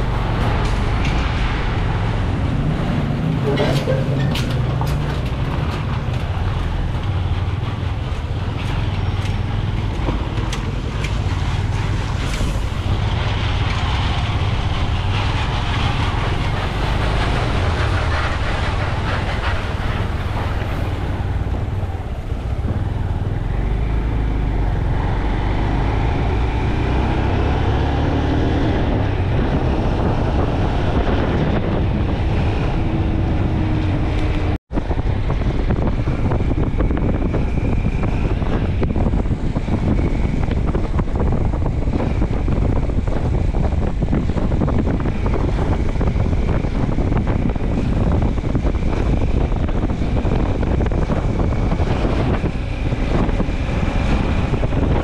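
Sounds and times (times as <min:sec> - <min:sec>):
continuous rushing noise: 0:00.0 - 0:55.0
wind buffeting microphone: 0:00.0 - 0:55.0.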